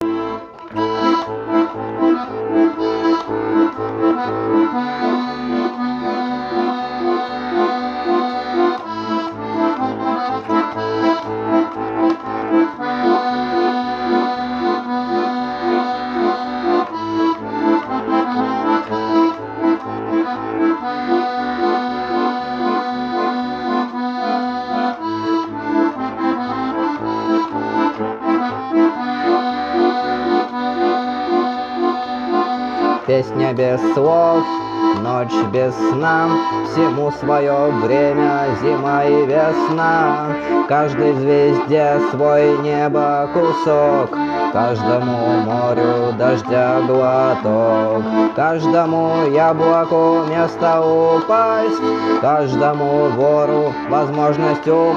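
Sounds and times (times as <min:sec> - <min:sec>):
accordion playing: 0:00.0 - 0:54.9.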